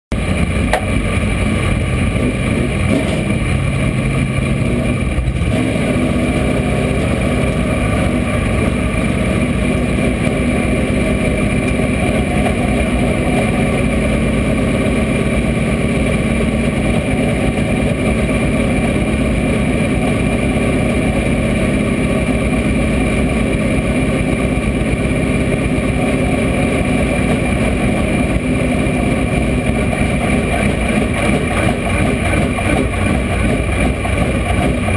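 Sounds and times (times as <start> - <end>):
race car engine running: 0.1 - 34.9.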